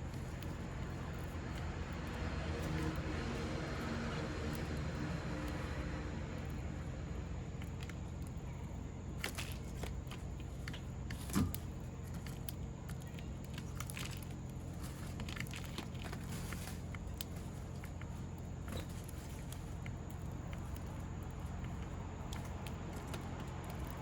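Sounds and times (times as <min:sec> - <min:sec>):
birds pecking on wooden feeder: 0:00.0 - 0:24.0
low background rumble: 0:00.0 - 0:24.0.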